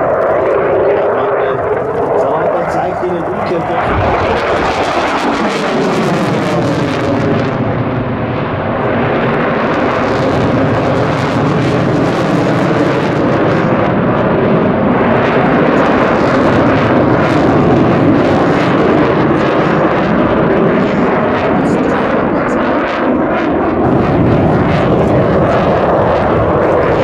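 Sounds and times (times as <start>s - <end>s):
jet engine roar: 0.0s - 27.0s.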